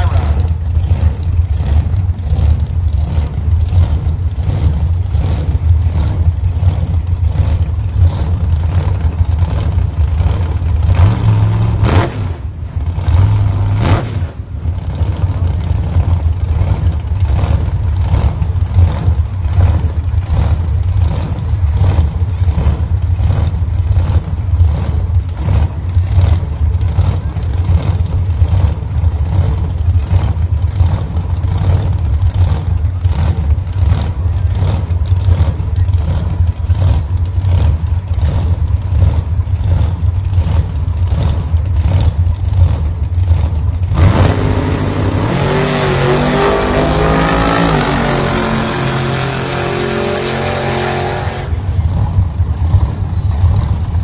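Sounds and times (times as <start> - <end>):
drag car engine idling loudly: 0.0 - 54.0
engine revving: 0.0 - 54.0.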